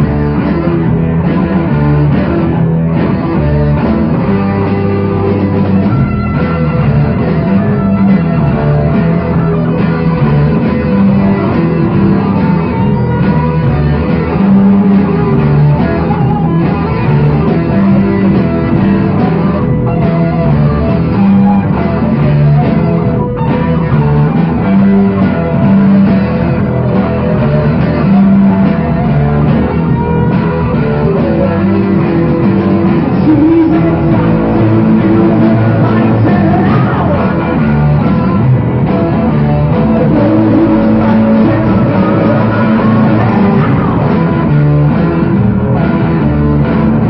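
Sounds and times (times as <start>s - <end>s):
electric guitar: 0.0s - 47.0s
rock band instrumental: 0.0s - 47.0s.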